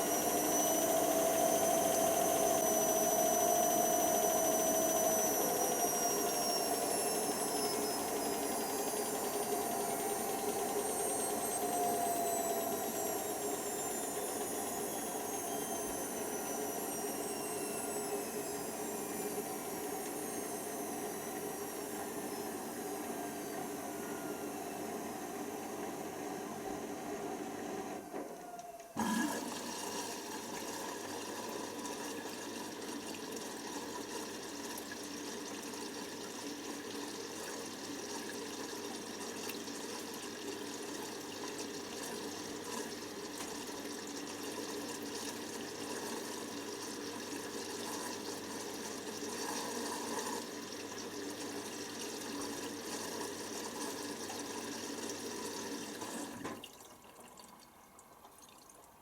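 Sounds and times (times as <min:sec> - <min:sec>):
water rushing into machine: 0:00.0 - 0:24.7, 0:27.9 - 0:58.9
washing machine motor whine: 0:00.0 - 0:56.7.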